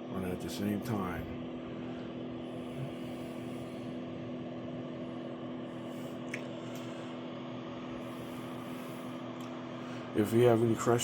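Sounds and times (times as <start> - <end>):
space heater fans whirring: 0.0 - 11.0.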